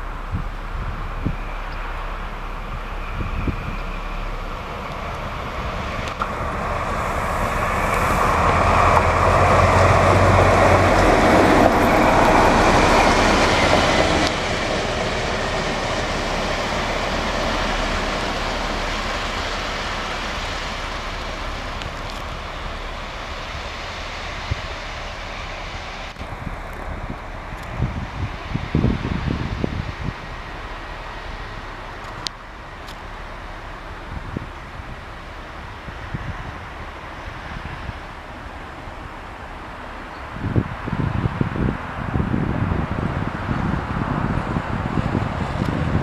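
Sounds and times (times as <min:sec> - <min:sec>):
diesel locomotive engine hum: 0:00.0 - 0:46.0
wheels rumbling on rail: 0:00.0 - 0:46.0.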